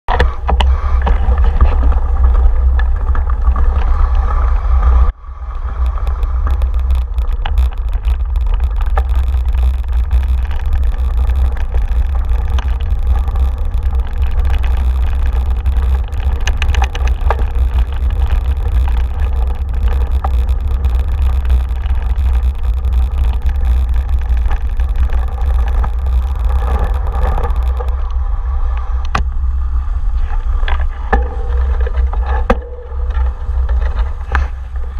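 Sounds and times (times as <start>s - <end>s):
bicycle clicks and rattles: 0.1s - 28.2s, 30.3s - 34.9s
bicycle tyre noise: 0.1s - 34.9s
wind rumble on microphone: 0.1s - 34.9s.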